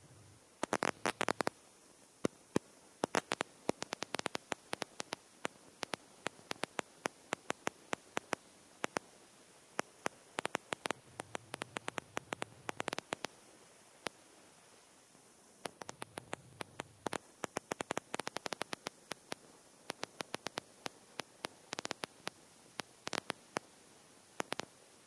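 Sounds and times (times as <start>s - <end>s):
faint steady hiss: 0.0s - 25.0s
sharp irregular clicks: 0.6s - 1.6s, 2.2s - 9.2s, 9.8s - 14.2s, 15.5s - 24.8s.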